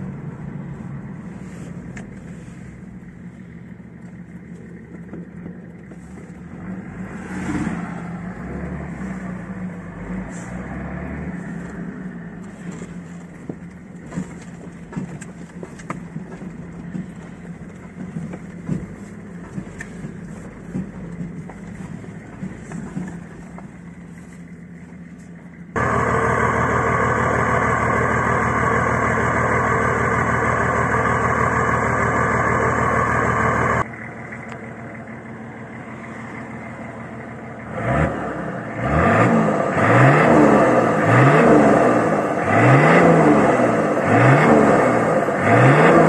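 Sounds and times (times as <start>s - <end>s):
diesel engine idling: 0.0s - 46.0s
diesel engine revving: 0.0s - 46.0s.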